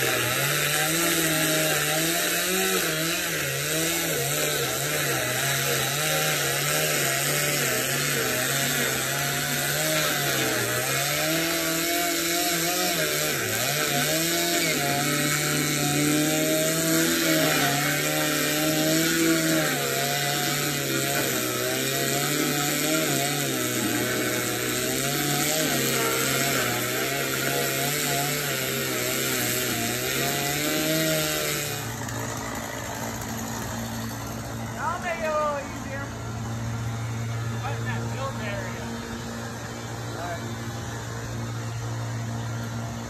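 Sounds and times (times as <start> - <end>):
chainsaw cutting: 0.0 - 43.0.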